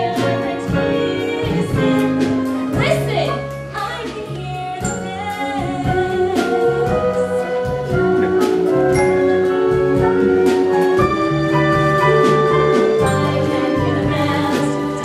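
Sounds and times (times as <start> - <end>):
band playing: 0.0 - 15.0.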